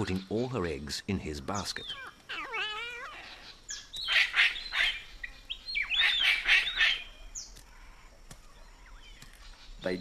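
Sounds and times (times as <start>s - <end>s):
cockatoos calling: 1.5s - 10.0s.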